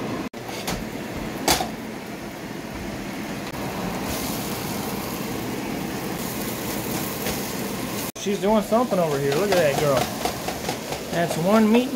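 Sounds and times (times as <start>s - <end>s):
vegetables sizzling in a frying pan: 0.4s - 11.9s.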